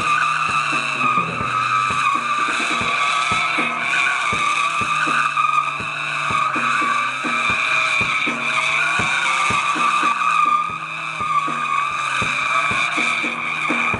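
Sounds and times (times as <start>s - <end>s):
background music with steady beat: 0.0s - 13.9s
motorcycle tyre squealing: 0.0s - 13.9s.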